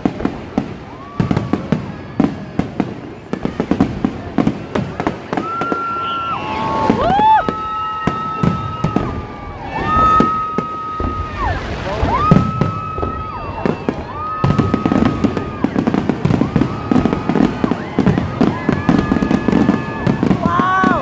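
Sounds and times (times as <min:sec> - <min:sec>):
fireworks bangs and crackling: 0:00.0 - 0:21.0
fireworks whistling: 0:00.0 - 0:21.0.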